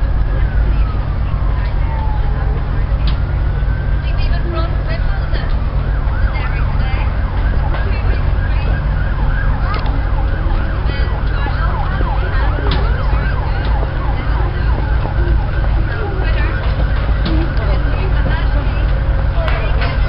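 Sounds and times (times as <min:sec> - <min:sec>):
low rumble: 0:00.0 - 0:20.0
siren rising and falling: 0:00.0 - 0:20.0.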